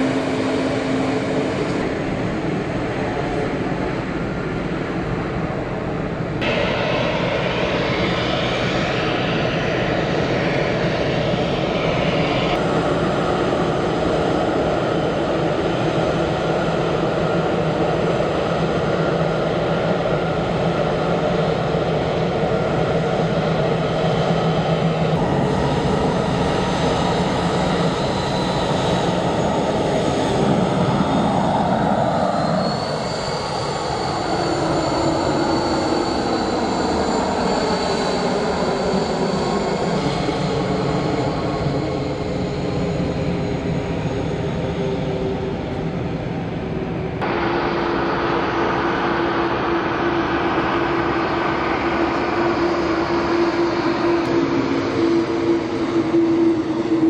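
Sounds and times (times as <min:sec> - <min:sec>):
rising engine whine: 0:00.0 - 0:04.1, 0:06.3 - 0:57.0
jet engines roaring: 0:00.0 - 0:57.0.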